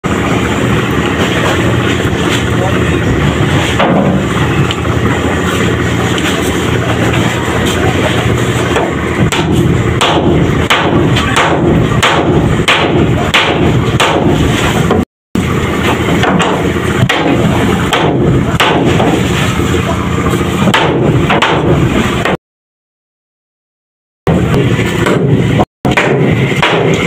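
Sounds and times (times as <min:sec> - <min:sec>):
hammer blows: 0:00.0 - 0:22.4, 0:24.3 - 0:27.0
machinery drone: 0:00.0 - 0:22.4.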